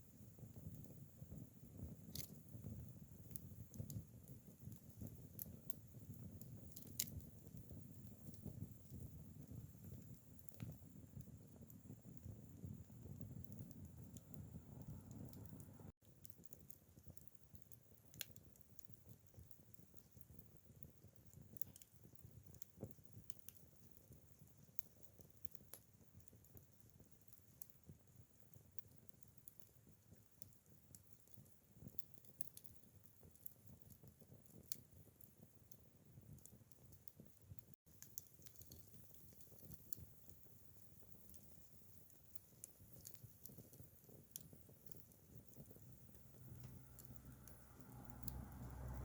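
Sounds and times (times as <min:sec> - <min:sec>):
fire crackling and popping: 0:00.0 - 0:49.0
low rumble of flames: 0:00.0 - 0:49.0.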